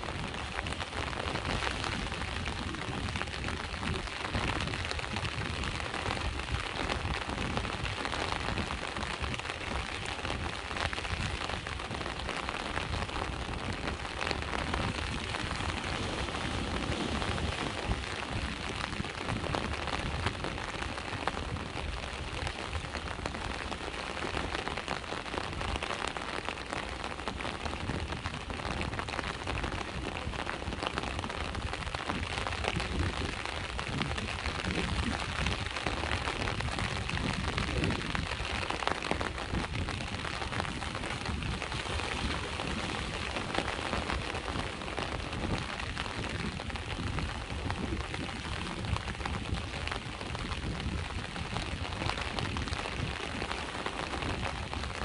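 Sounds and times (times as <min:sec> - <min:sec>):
rain falling: 0:00.0 - 0:55.0
sea waves rumbling: 0:00.0 - 0:55.0.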